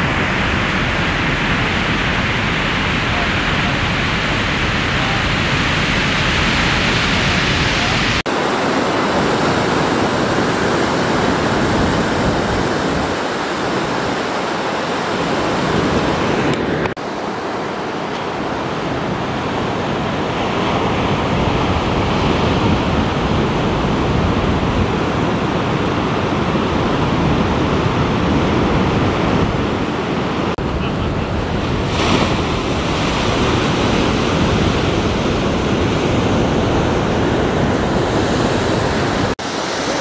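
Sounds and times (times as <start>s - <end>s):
waves breaking: 0.0s - 40.0s
wind on microphone: 0.0s - 40.0s.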